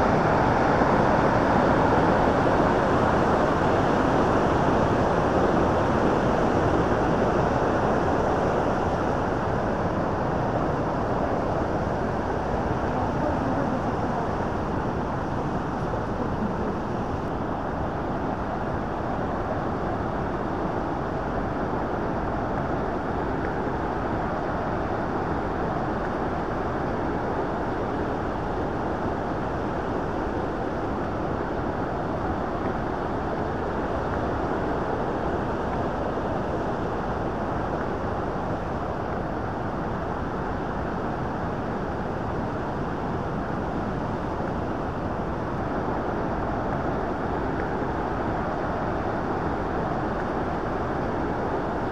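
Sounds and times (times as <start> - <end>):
river water rushing over rapids: 0.0 - 51.9.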